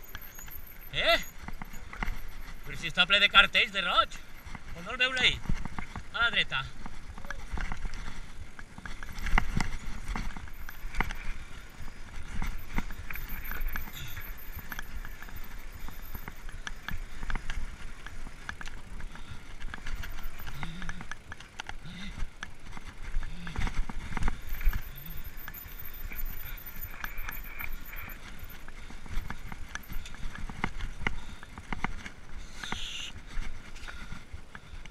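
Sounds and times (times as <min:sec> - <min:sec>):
tyres rumbling on dirt: 0:00.0 - 0:34.8
bike rattling over bumpy trail: 0:00.0 - 0:34.9.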